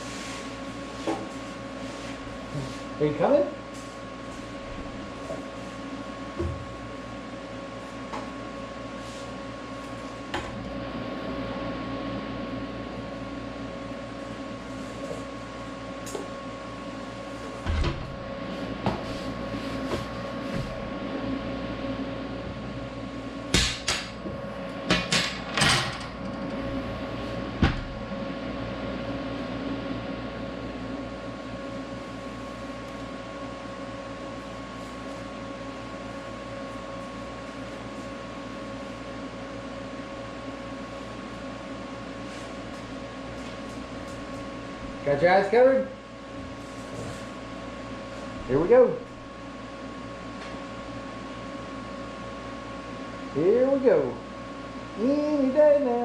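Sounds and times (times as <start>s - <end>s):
shop equipment hum: 0.0s - 56.0s.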